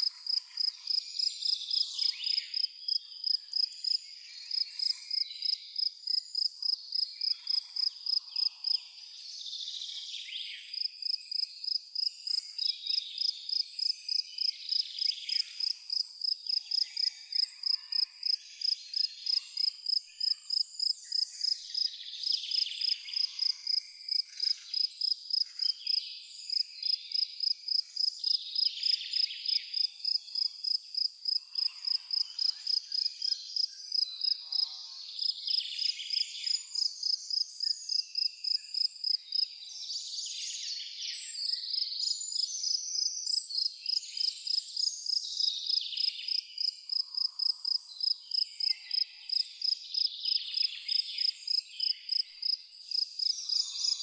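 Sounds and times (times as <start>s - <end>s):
cricket chirping: 0.0s - 8.8s, 10.7s - 39.5s, 41.4s - 54.0s
faint insect chirps and trills: 0.0s - 54.0s.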